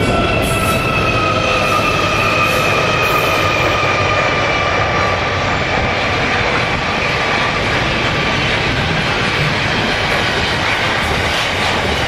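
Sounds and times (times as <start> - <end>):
diesel locomotives passing: 0.0 - 12.0.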